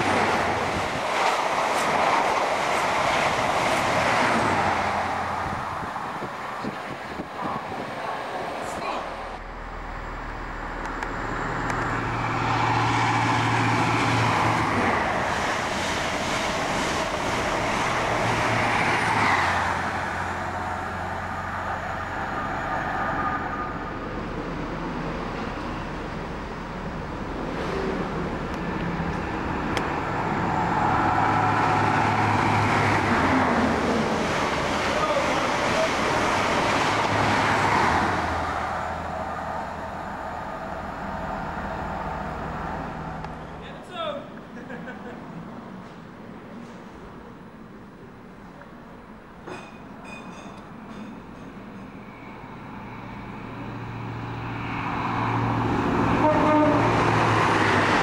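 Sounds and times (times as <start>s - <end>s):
train wheels rushing on rails: 0.0s - 43.6s, 49.4s - 58.0s
diesel train engines droning: 0.0s - 58.0s.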